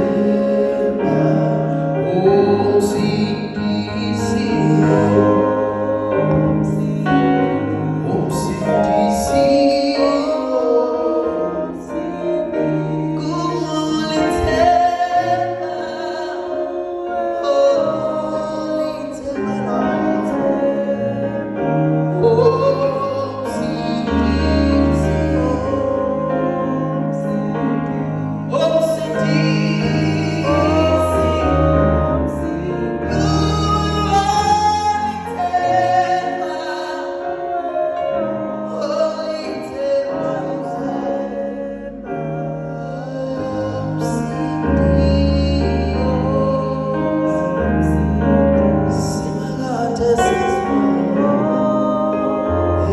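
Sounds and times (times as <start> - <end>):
wavering singing voice: 0.0 - 52.9.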